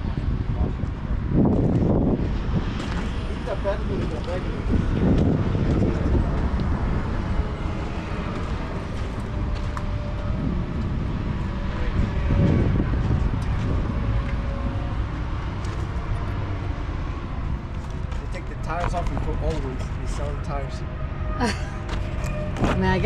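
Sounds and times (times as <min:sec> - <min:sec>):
low rumble of vehicles: 0:00.0 - 0:23.0.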